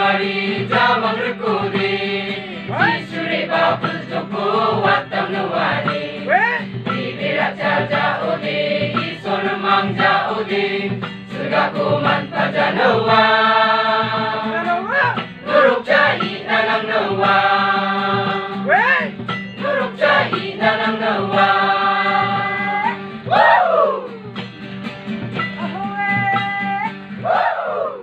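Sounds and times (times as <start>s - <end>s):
mixed choir singing: 0.0s - 14.7s, 15.4s - 24.1s, 27.2s - 28.0s.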